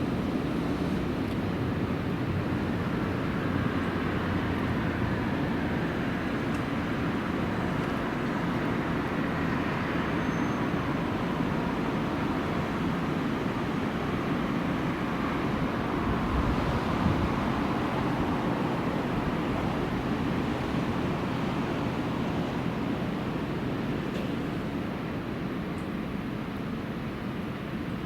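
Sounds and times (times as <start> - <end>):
low rumble of a train: 0.0 - 28.0.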